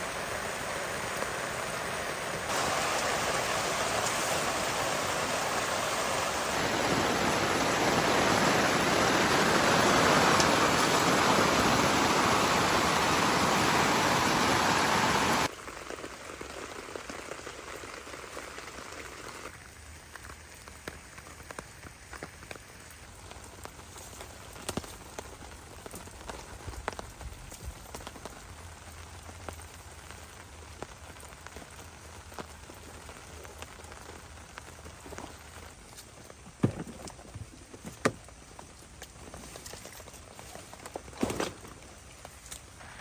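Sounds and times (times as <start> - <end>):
heavy rain hissing: 0.0 - 43.0
raindrops pattering on a surface: 0.0 - 43.0.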